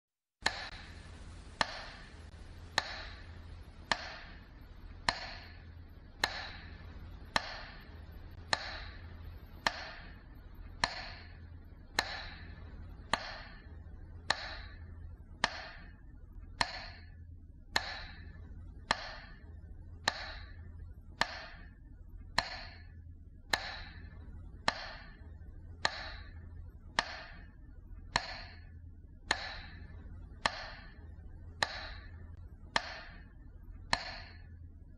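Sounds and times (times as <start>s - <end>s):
low steady hum: 0.4s - 34.9s.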